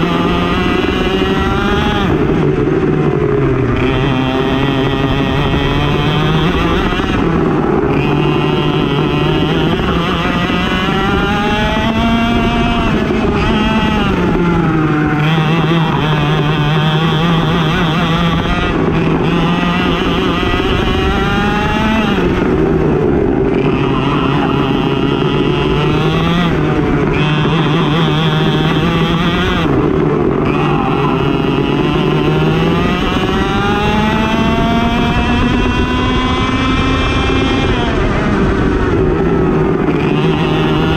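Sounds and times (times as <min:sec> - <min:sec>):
kart engine at full throttle: 0:00.0 - 0:40.9.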